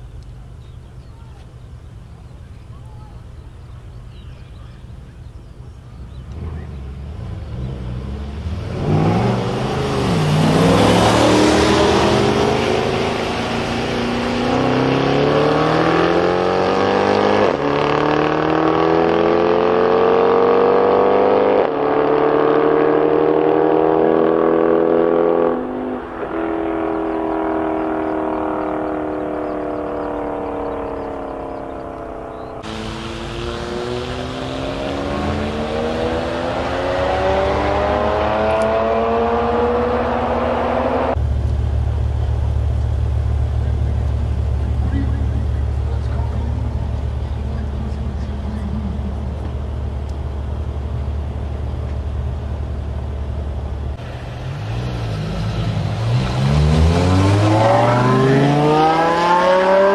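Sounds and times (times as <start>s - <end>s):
car engine revving at full throttle: 6.0s - 59.9s.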